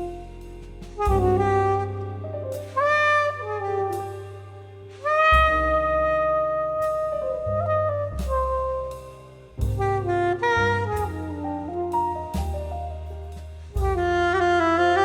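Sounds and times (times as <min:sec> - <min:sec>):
soprano saxophone melody: 0:00.0 - 0:13.0, 0:13.7 - 0:15.0
double bass: 0:00.0 - 0:15.0
drums: 0:00.0 - 0:15.0
piano: 0:00.0 - 0:15.0.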